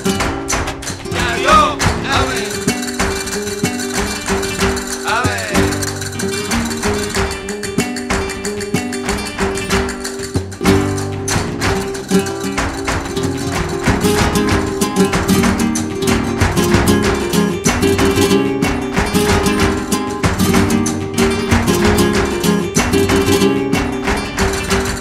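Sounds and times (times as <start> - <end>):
plucked guitar: 0.0 - 25.0
sharp percussive strikes: 0.0 - 25.0.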